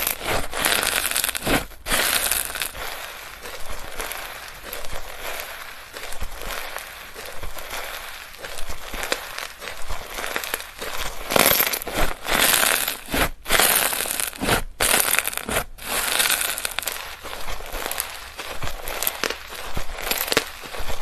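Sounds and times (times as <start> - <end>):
slime crackling and squelching: 0.0 - 21.0.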